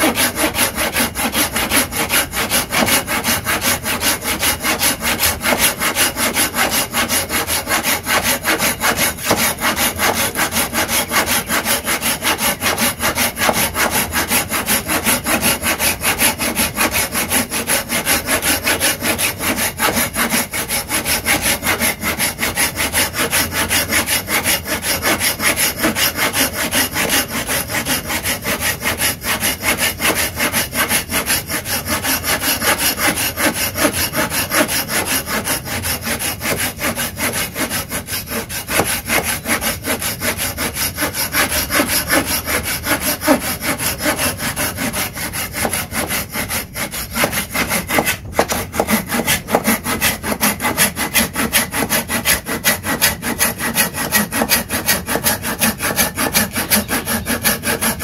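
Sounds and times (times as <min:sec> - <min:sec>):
hand saw cutting wood: 0:00.0 - 0:58.0.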